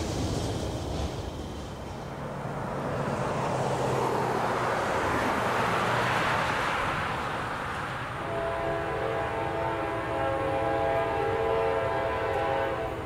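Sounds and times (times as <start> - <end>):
distant freight train rumble: 0.0 - 13.0.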